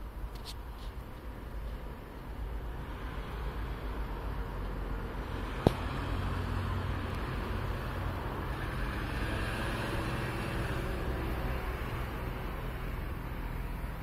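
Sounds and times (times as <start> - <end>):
traffic-like background rumble: 0.0 - 14.0.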